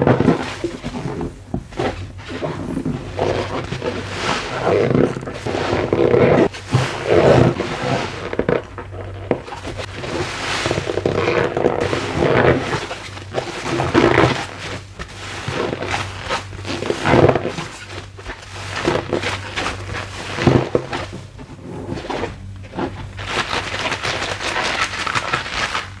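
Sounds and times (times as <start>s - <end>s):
sponge squeaking: 0.0s - 26.0s.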